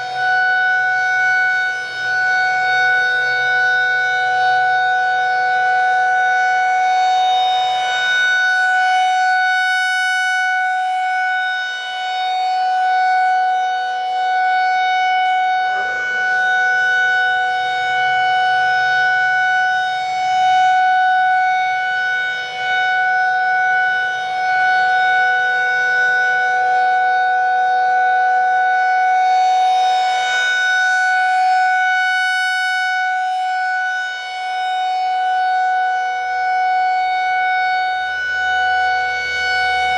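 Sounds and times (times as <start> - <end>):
rotating warning siren tone: 0.0 - 39.9.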